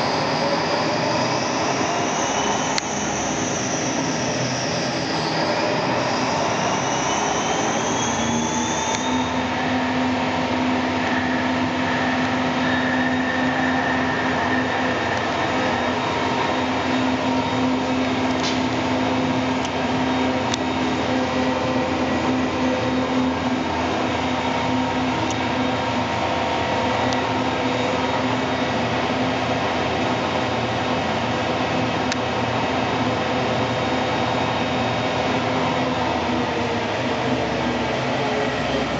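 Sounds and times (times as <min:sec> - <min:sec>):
lathe humming and whining: 0:00.0 - 0:38.9.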